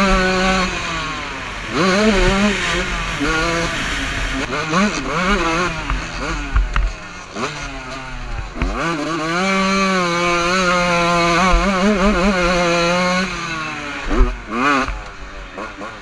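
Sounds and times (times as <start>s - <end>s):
two-stroke motorbike engine revving: 0.0s - 16.0s.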